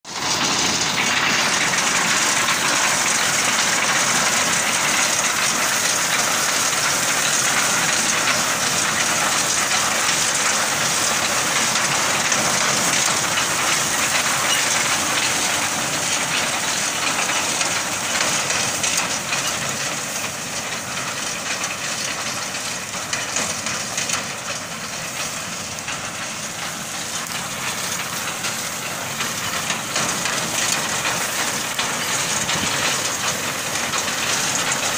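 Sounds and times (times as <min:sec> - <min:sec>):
tractor engine: 0:00.0 - 0:34.9.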